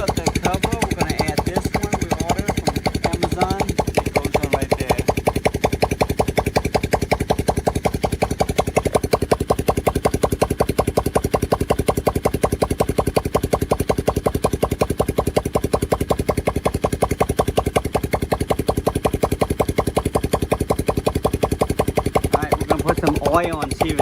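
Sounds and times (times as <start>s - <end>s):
atv engine idling: 0.0s - 24.0s.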